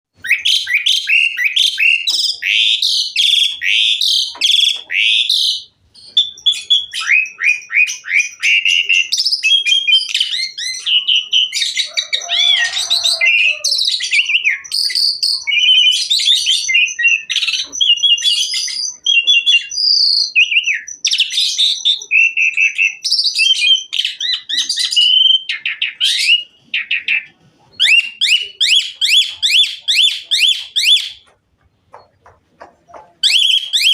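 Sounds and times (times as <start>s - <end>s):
starling singing varied song: 0.2s - 31.3s.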